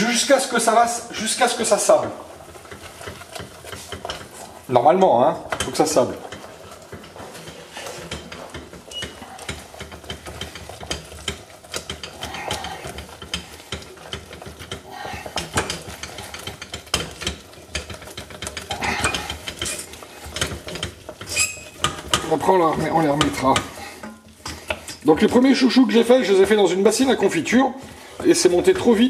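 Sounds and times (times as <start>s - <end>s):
nuts clattering and scraping pan: 0.0s - 29.0s.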